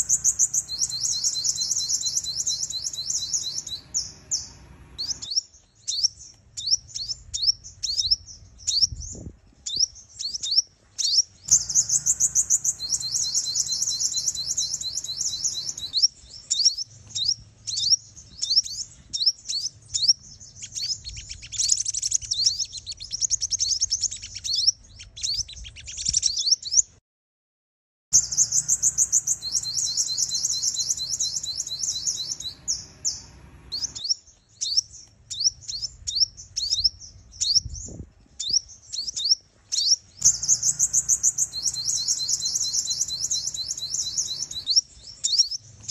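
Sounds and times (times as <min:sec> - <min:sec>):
bird chirping and trilling: 0:00.0 - 0:26.9, 0:28.2 - 0:45.9.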